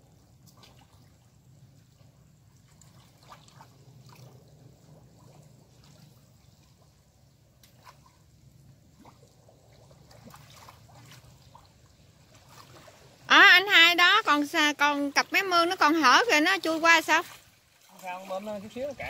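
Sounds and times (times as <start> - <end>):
water splashing and trickling: 0.0 - 19.0.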